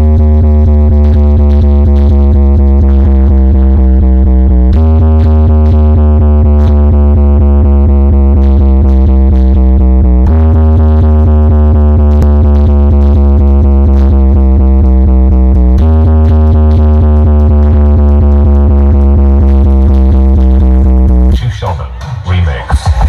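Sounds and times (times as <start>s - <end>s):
electronic dance music: 0.0s - 23.0s.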